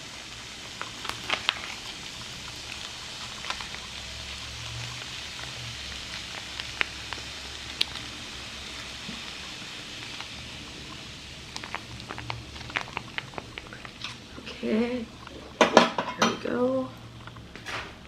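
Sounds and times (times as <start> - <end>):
noodles sizzling quietly: 0.0 - 18.0.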